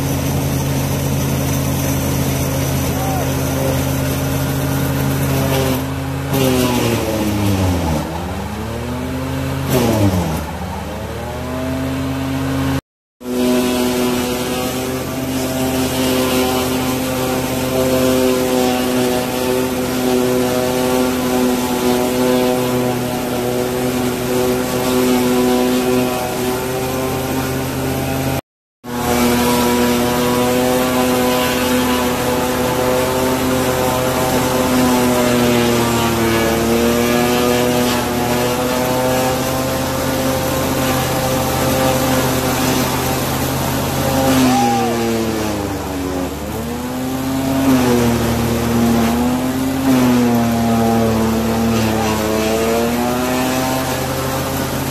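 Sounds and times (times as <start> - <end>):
harvester engine droning: 0.0 - 54.9.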